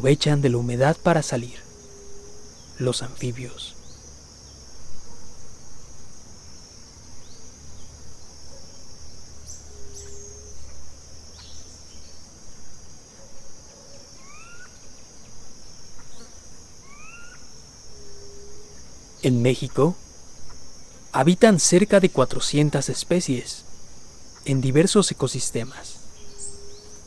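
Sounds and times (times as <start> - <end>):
crickets chorus: 0.0 - 27.0
short insect calls: 0.0 - 27.0.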